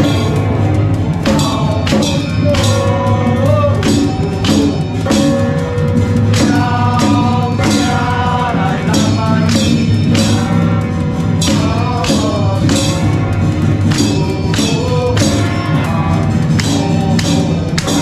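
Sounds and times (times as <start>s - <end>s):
singing over percussion beat: 0.0s - 18.0s.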